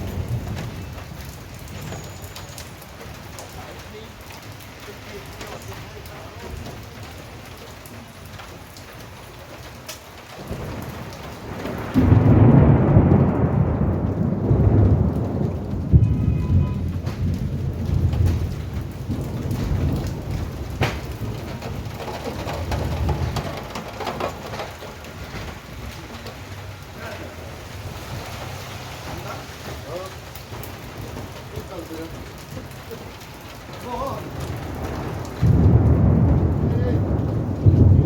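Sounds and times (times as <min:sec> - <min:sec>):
steady rain falling: 0:00.0 - 0:38.0
thunderclap with low rumble: 0:00.0 - 0:38.0.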